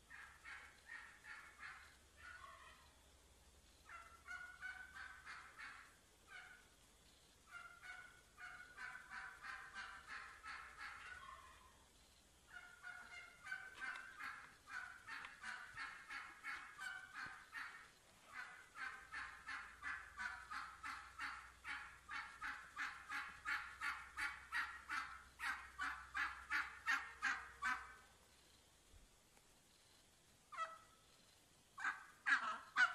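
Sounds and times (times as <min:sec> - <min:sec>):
wild turkey hens yelping: 0:00.0 - 0:03.0, 0:03.6 - 0:28.2, 0:30.5 - 0:32.9.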